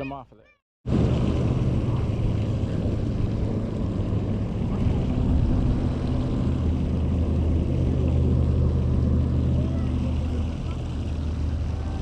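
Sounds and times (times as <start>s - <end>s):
low motor drone: 0.9s - 12.0s.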